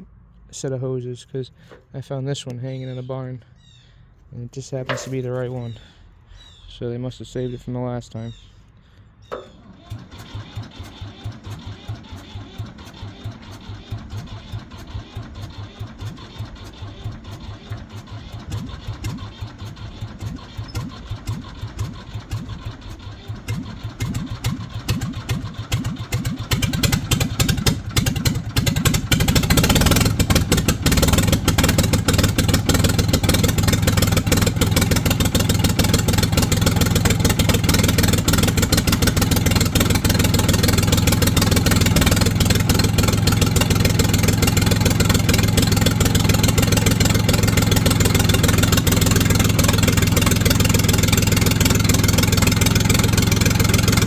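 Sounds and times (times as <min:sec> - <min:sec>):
diesel engine running: 0:00.0 - 0:02.2, 0:03.5 - 0:54.0.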